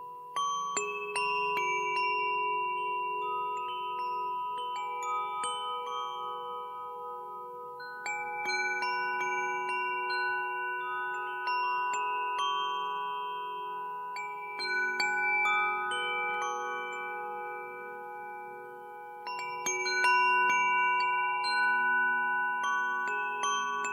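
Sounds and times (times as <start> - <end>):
wind chime ringing: 0.0 - 23.9.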